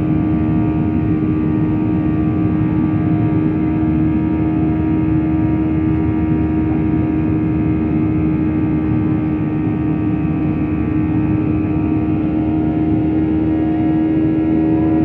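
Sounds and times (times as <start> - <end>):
jet engine cabin drone: 0.0 - 15.0.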